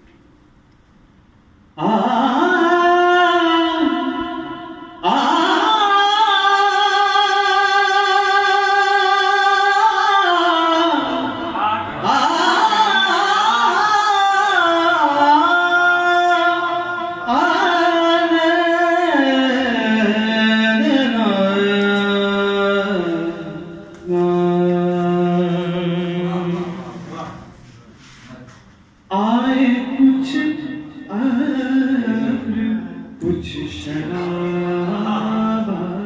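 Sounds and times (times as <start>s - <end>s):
man singing: 1.8s - 27.3s, 29.1s - 36.0s.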